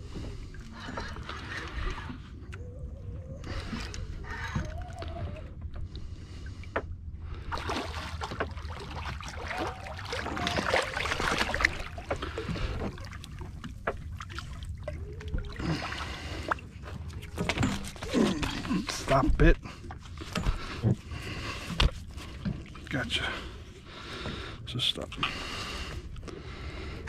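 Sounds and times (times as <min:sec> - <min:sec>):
water sloshing against hull: 0:00.0 - 0:27.0.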